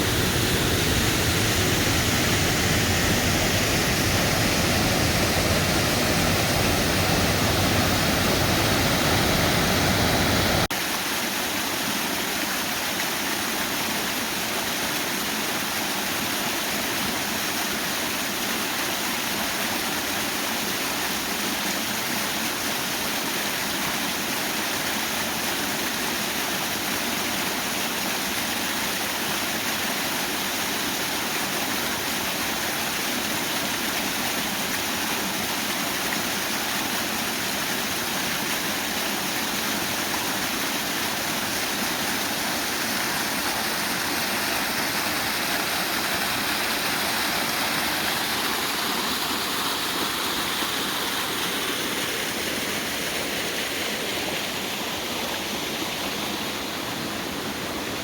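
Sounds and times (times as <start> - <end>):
waterfall and creek rushing: 0.0 - 58.0.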